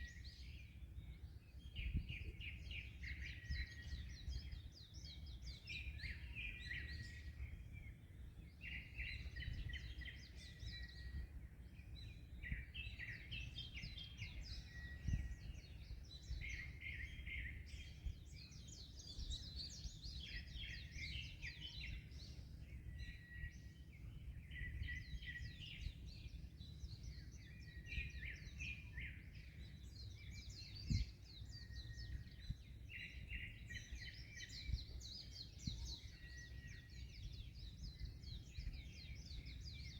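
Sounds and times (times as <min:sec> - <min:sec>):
small birds chirping: 0:00.0 - 0:39.9
wind: 0:00.0 - 0:39.9.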